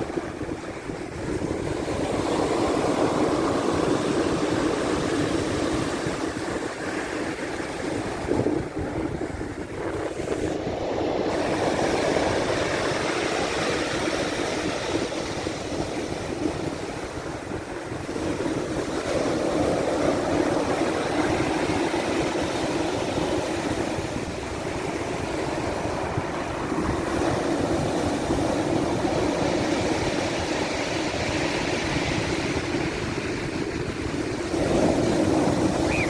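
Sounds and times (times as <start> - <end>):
ocean waves rushing in: 0.0 - 36.0.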